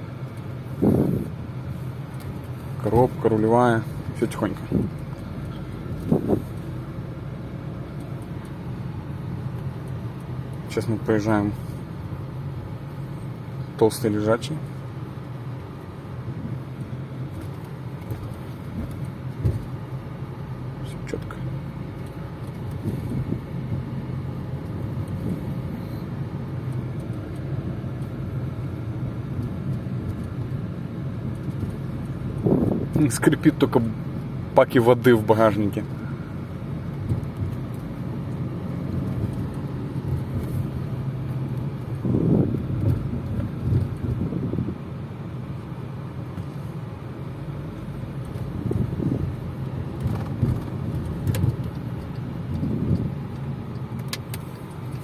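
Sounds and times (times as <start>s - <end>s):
road and engine drone: 0.0s - 55.0s.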